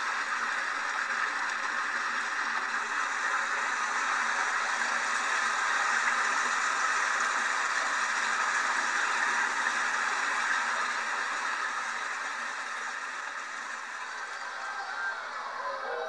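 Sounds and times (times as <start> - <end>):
steady hiss: 0.0 - 15.4.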